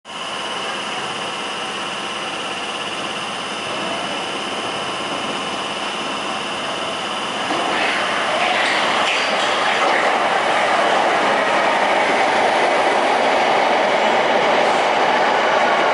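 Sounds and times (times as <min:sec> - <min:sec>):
approaching underground train: 0:00.1 - 0:15.9
high whine: 0:00.3 - 0:15.9.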